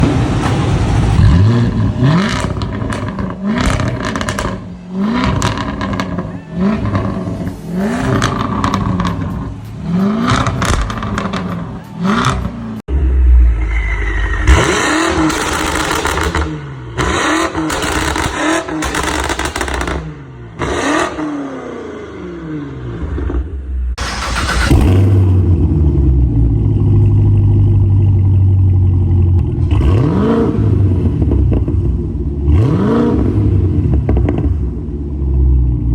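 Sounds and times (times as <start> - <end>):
engines revving: 0.0 - 27.2, 29.4 - 35.5.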